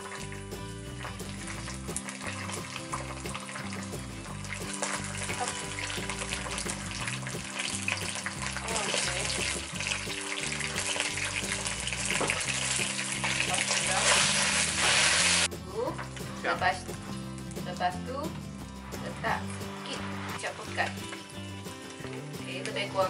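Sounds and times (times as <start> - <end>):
background music: 0.0 - 23.0
oil sizzling in a wok: 0.0 - 23.0.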